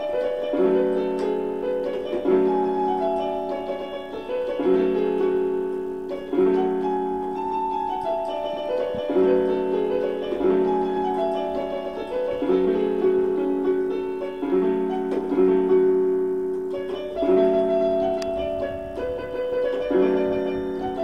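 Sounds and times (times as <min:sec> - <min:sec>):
keyboard piano chords: 0:00.0 - 0:21.0
keyboard single-note melody: 0:00.0 - 0:21.0.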